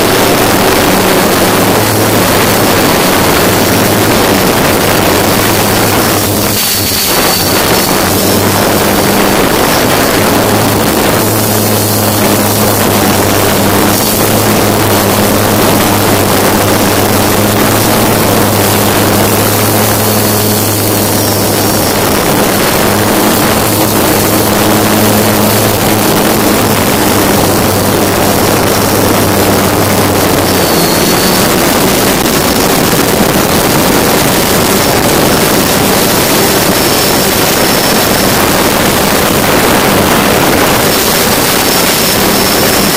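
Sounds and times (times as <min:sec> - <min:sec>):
dense rushing noise: 0:00.0 - 0:42.9
drone motors and propellers: 0:00.0 - 0:42.9
low hum: 0:00.0 - 0:42.9.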